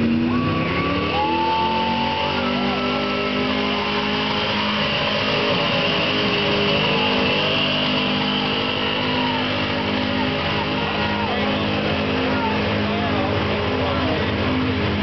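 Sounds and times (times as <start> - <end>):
truck engine running under load: 1.1 - 15.0.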